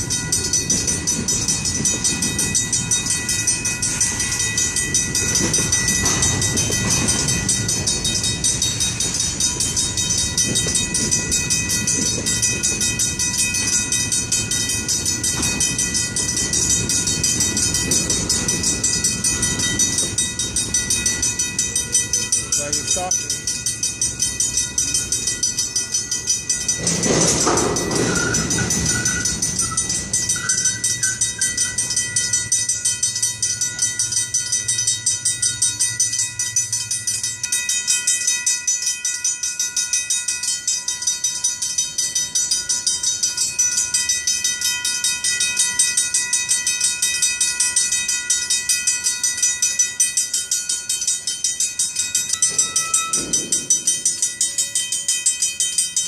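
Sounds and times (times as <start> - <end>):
crossing bells ringing: 0.0 - 56.0
freight train rumbling: 0.0 - 56.0.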